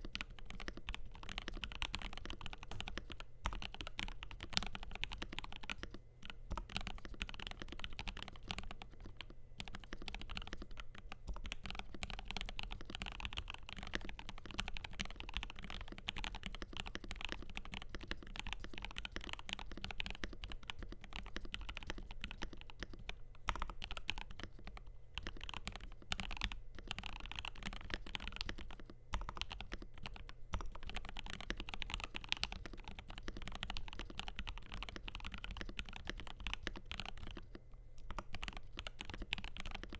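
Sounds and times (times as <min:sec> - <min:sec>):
fast typing on mechanical keyboard: 0:00.0 - 0:37.5, 0:38.1 - 0:39.9.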